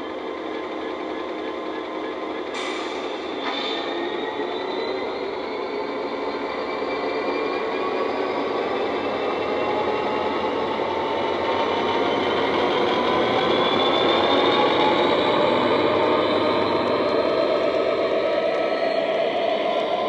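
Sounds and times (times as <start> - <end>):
model diesel engine sound: 0.0 - 20.0.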